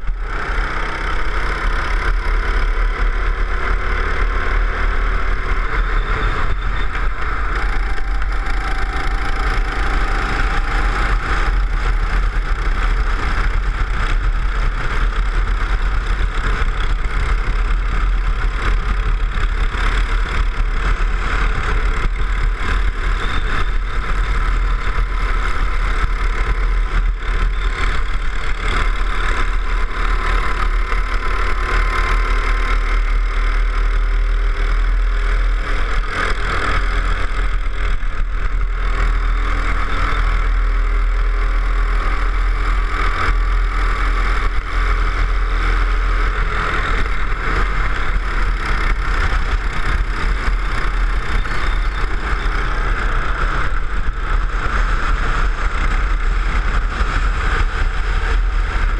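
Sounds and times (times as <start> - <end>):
go-kart engine running: 0.0 - 58.9.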